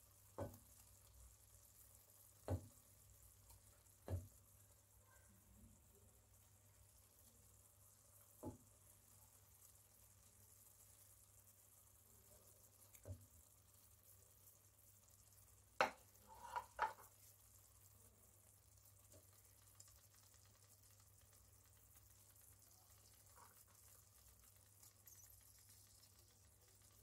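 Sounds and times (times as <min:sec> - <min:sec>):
sauce simmering hiss: 0:00.0 - 0:27.0.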